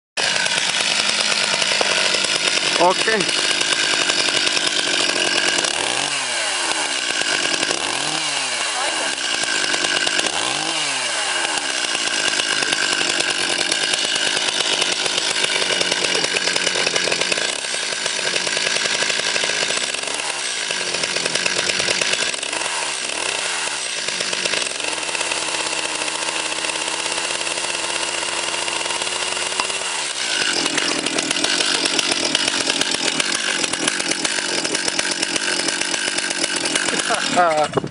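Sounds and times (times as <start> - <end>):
chainsaw engine revving: 0.2 - 37.9.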